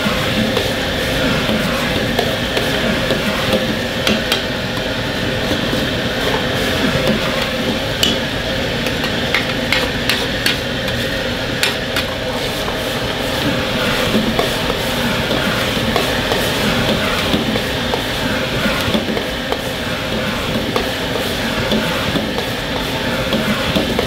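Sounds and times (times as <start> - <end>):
gas burner rushing: 0.0 - 24.0.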